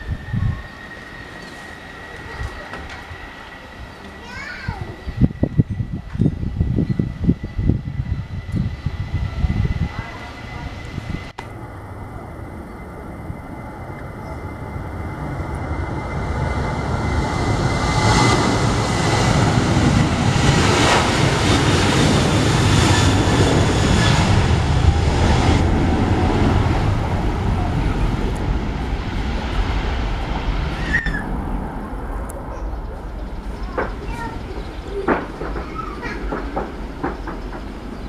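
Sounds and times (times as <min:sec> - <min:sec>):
jet engine roar: 0:00.0 - 0:38.0.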